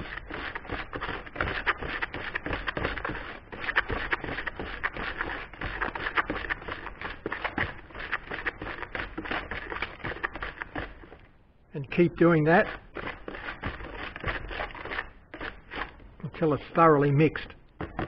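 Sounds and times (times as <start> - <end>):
gritty sand scraping in tub: 0.0 - 11.2, 11.8 - 17.5.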